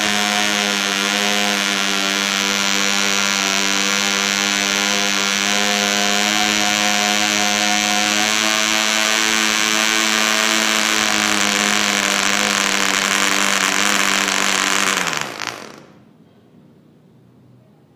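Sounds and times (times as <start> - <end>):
model engine buzzing: 0.0 - 16.0.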